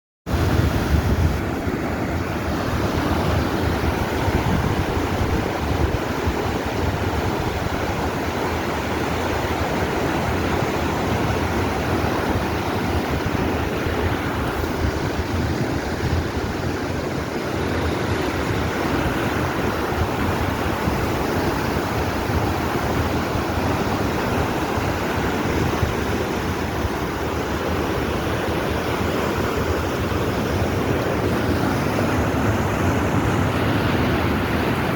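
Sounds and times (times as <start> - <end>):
river water rushing: 0.3 - 34.9.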